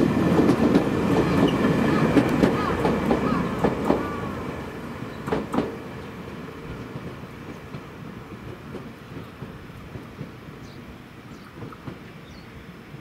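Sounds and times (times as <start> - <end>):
train wheels clicking on rail joints: 0.0 - 12.5
train rumble: 0.0 - 13.0.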